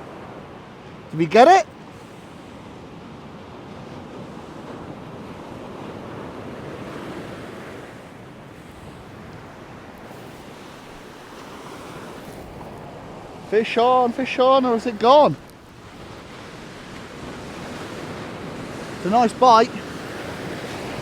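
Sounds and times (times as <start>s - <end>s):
small waves washing on beach: 0.0s - 21.0s.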